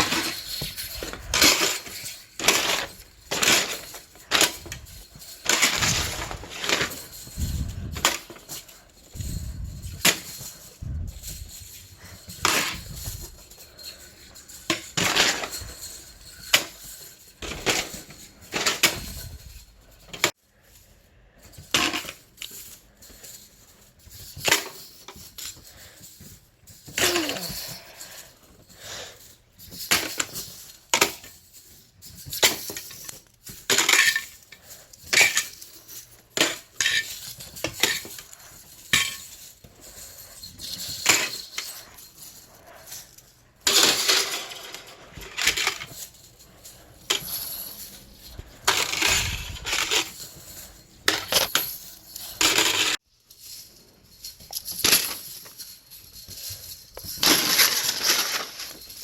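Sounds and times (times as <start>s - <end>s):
slinky jangling and clattering: 0.0s - 59.0s.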